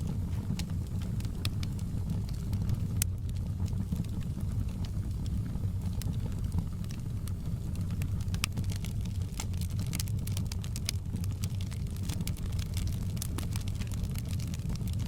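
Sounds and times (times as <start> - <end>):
fire crackles and pops: 0.0 - 15.0
wood fire rumbling: 0.0 - 15.0.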